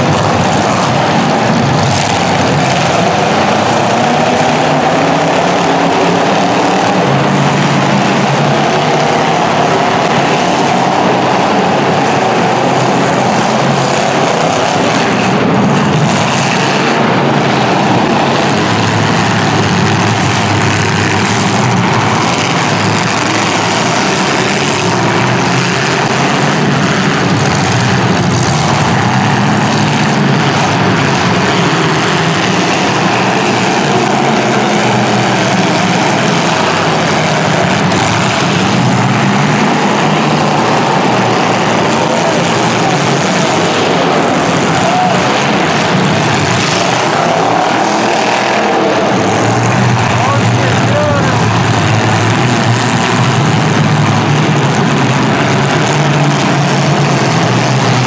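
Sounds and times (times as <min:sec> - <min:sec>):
car engines running hard: 0:00.0 - 0:58.0.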